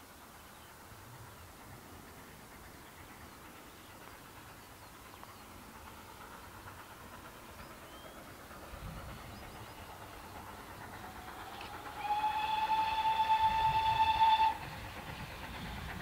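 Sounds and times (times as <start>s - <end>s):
steam locomotive approaching: 0.0s - 16.0s.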